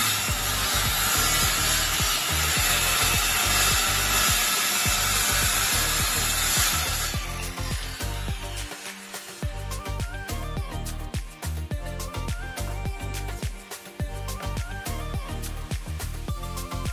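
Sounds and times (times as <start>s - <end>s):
circular saw cutting wood: 0.0s - 16.9s.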